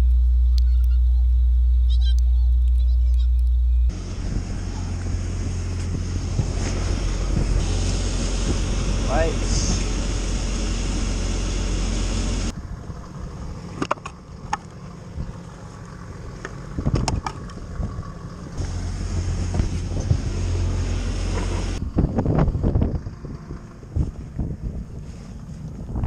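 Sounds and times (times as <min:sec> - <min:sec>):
vehicle engine and tracks droning: 0:00.0 - 0:26.0
wind: 0:00.0 - 0:26.0.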